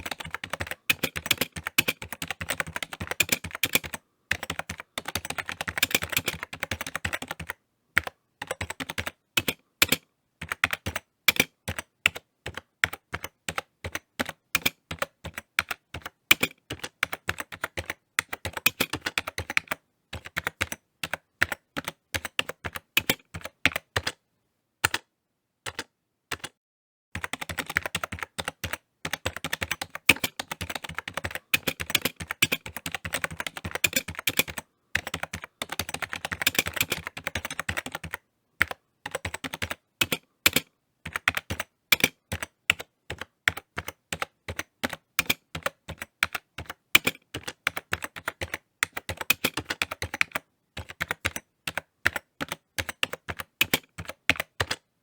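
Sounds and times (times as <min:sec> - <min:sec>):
computer keyboard typing: 0:00.0 - 0:24.2, 0:24.8 - 0:25.1, 0:25.7 - 0:26.6, 0:27.2 - 0:54.9.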